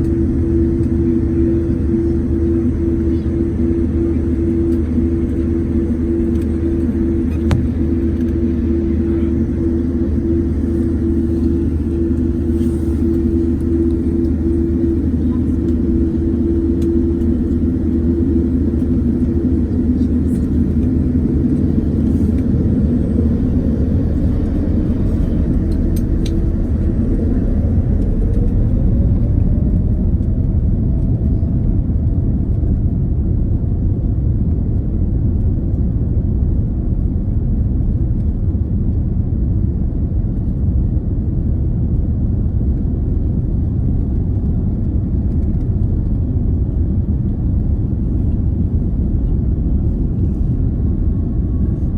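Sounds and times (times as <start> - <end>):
jet engines rumbling: 0.0 - 51.9.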